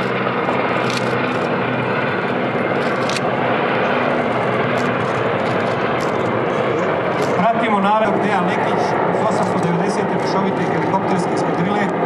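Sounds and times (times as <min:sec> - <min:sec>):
helicopters flying over: 0:00.0 - 0:12.0
low hum: 0:00.0 - 0:12.0.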